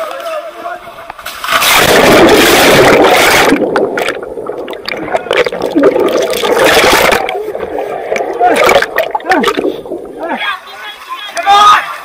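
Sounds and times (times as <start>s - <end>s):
water rushing and splashing: 1.4s - 11.1s.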